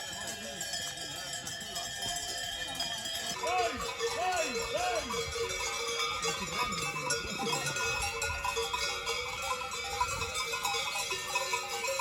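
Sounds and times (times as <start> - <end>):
livestock bells ringing: 0.0 - 12.0.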